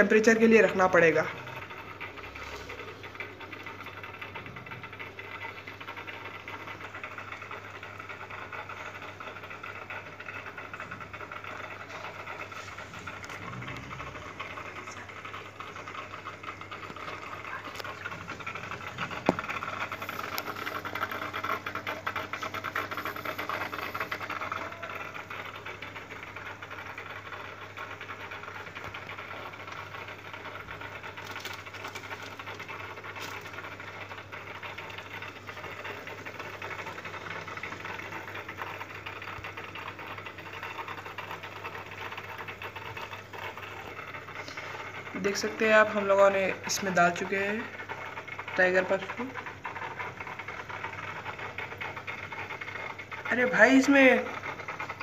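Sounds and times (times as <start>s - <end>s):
aquarium air pump humming: 0.0s - 55.0s
water bubbling in a tank: 0.0s - 55.0s.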